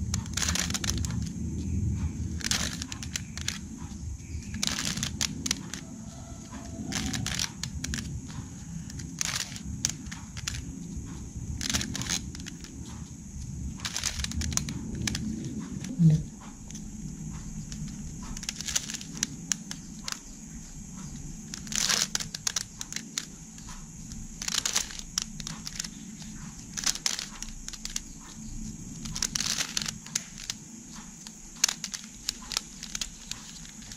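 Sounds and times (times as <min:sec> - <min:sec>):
puzzle cube layers clicking: 0:00.0 - 0:01.4, 0:02.2 - 0:13.0, 0:13.7 - 0:16.0, 0:16.6 - 0:33.9
steady low hum: 0:00.0 - 0:33.9.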